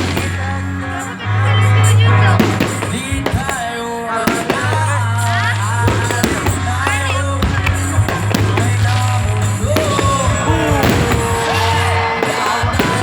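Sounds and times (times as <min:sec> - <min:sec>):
firework bangs: 0:00.0 - 0:13.0
firework whistles: 0:00.0 - 0:13.0
loud music with deep bass: 0:00.0 - 0:13.0.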